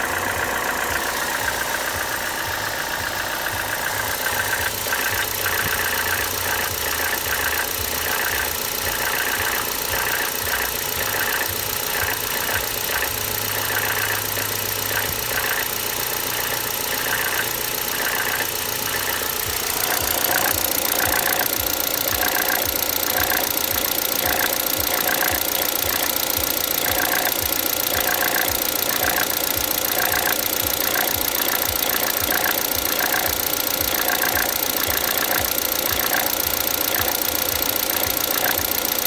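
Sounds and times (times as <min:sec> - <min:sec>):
belt drive rattle: 0:00.0 - 0:39.0
car engine idling: 0:00.0 - 0:39.0.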